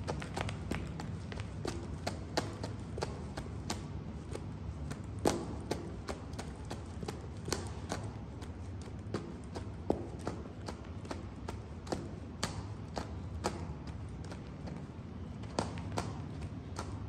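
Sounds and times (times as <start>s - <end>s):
heel taps on concrete: 0.1s - 17.0s.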